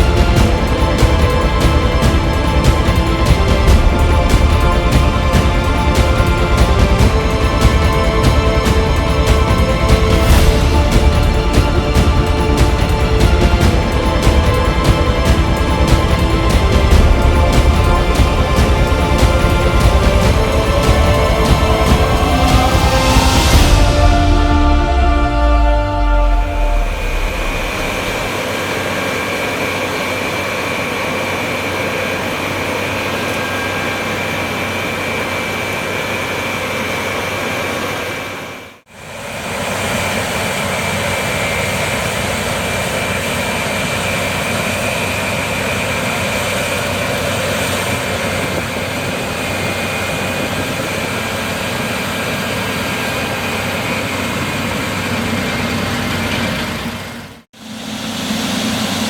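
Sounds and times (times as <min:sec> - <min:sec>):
combine harvester engine and machinery: 0:00.0 - 0:59.0
high machinery whine: 0:00.0 - 0:59.0.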